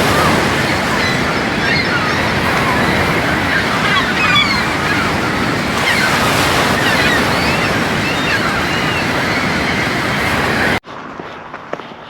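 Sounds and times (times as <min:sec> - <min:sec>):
ocean surf rushing: 0:00.0 - 0:10.8
strong wind: 0:00.0 - 0:10.8.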